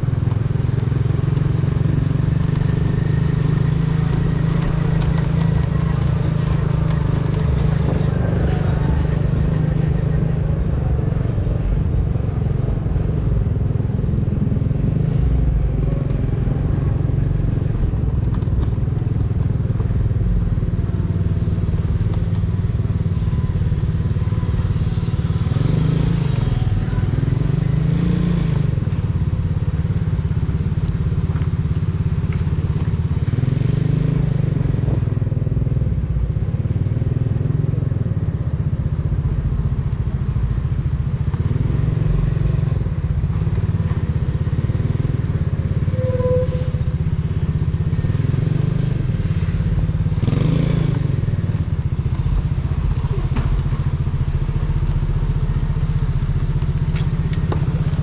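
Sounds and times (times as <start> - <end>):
motorcycle exhaust: 0.0 - 58.0.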